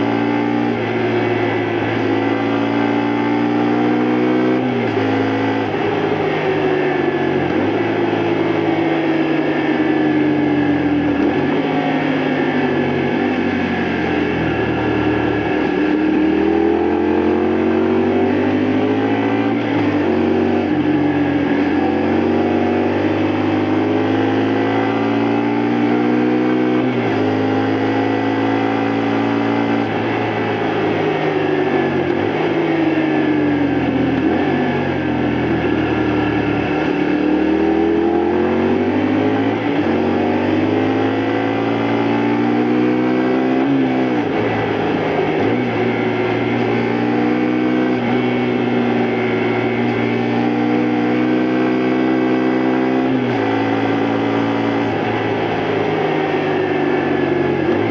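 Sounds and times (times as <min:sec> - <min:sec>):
motorcycle engine under way: 0:00.0 - 0:57.9.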